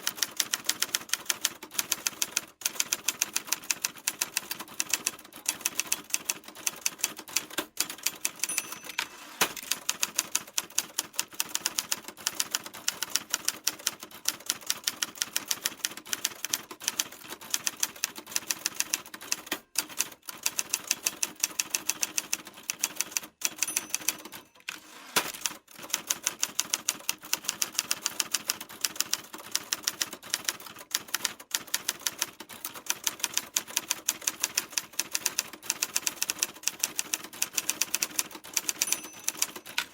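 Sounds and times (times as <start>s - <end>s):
typewriter keys clacking: 0.0s - 39.9s.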